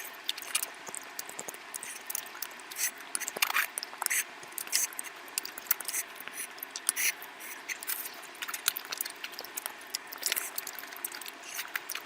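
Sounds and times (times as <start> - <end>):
person chewing with wet smacking: 0.0 - 12.0.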